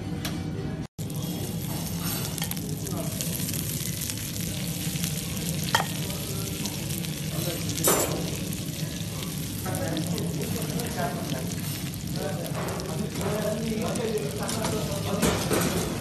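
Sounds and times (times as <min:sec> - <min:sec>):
butter sizzling in a pot: 0:01.0 - 0:15.2.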